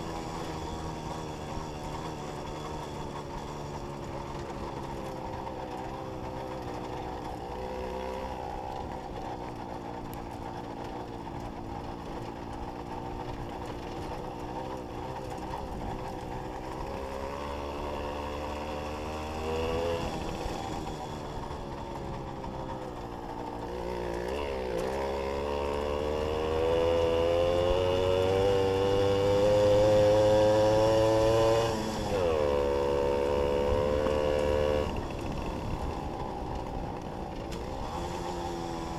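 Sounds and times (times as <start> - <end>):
moped engine running: 0.0 - 38.9.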